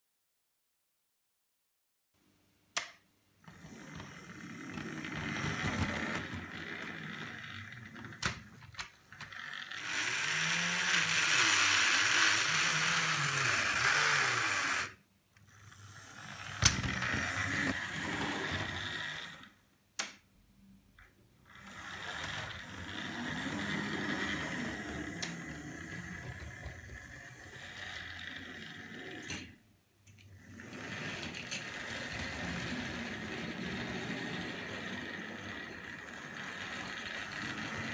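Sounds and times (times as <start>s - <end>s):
model train motor whirring: 3.4s - 19.6s, 21.4s - 29.6s, 30.2s - 37.9s.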